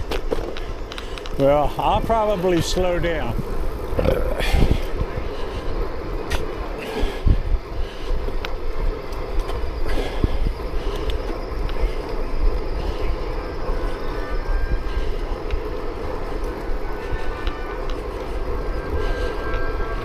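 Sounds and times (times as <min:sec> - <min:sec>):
tyres humming on pavement: 0:00.0 - 0:20.0
wind rumbling on microphone: 0:00.0 - 0:20.0.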